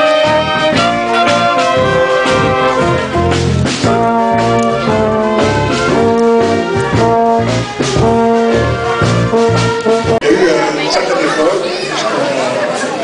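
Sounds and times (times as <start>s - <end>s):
saxophones playing a tune: 0.0s - 11.0s
electronic keyboard through loudspeaker: 0.0s - 12.3s.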